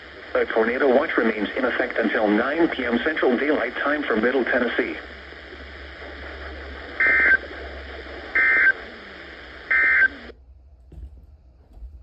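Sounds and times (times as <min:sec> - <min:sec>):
steady radio hiss: 0:00.0 - 0:10.4.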